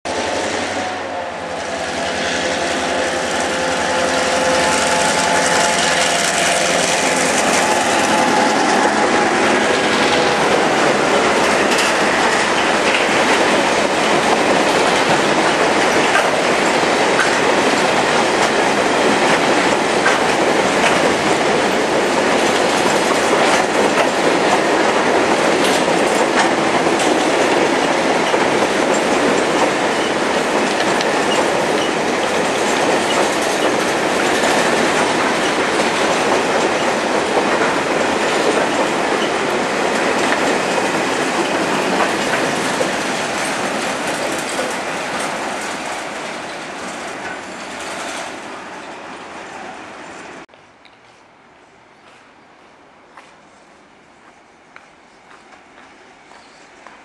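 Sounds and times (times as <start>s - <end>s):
diesel locomotive engine: 0.1s - 57.0s
wagons rumbling and clacking: 2.7s - 48.5s.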